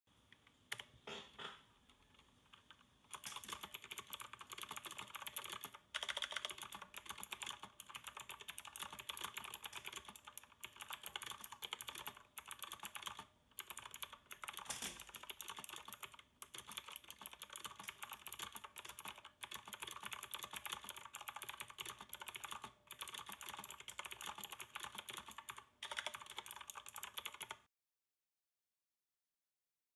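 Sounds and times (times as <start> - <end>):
mechanical keyboard typing: 0.7 - 0.9, 1.9 - 27.7.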